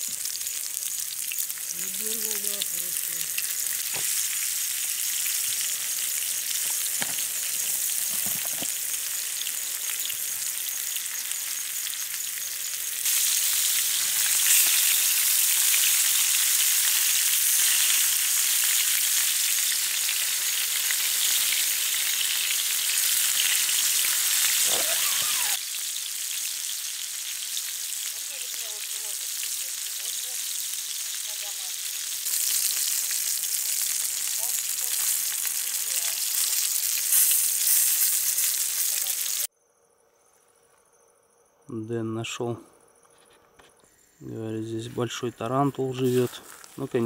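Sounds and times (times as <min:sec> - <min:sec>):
fish sizzling in hot oil: 0:00.0 - 0:39.5.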